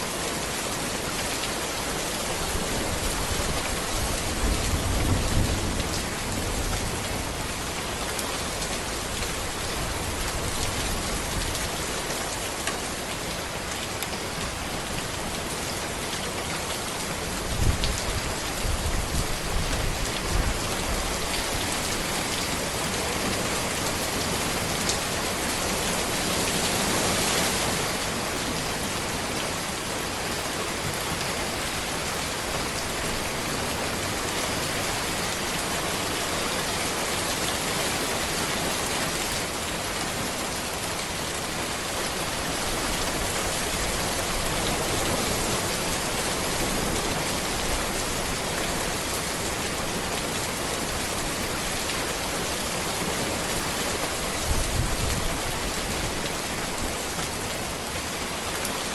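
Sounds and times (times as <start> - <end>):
heavy rain on road and trees: 0.0 - 58.9.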